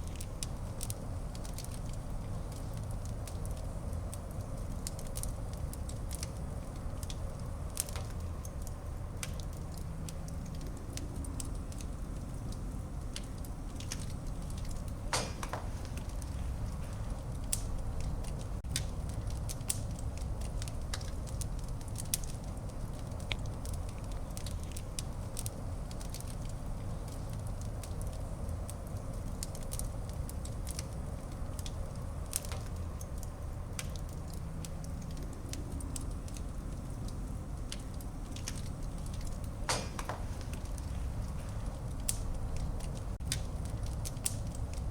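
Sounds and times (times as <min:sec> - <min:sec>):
fire crackles and pops: 0:00.0 - 0:44.9
fire rumbling in a fireplace: 0:00.0 - 0:44.9.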